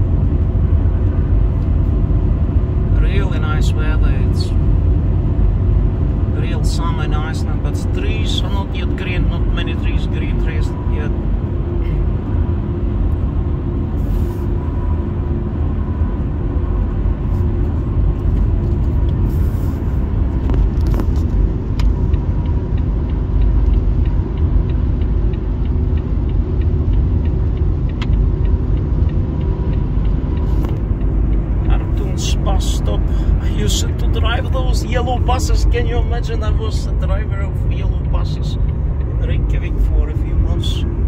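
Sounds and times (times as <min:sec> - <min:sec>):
car interior road rumble: 0:00.0 - 0:41.0.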